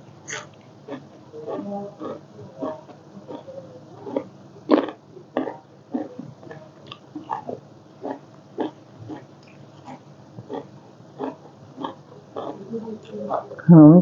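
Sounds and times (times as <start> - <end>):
person chewing food noisily: 0.0 - 13.6.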